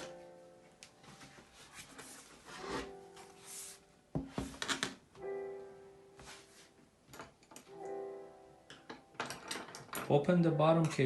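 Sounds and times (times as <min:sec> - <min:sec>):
piano-like keyboard chords: 0:00.0 - 0:04.1, 0:05.0 - 0:11.0.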